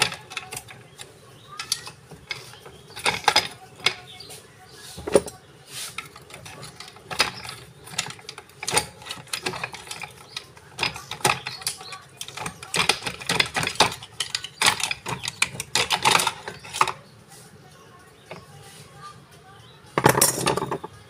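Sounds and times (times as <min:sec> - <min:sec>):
screwdrivers scraping metal: 0:00.0 - 0:17.0.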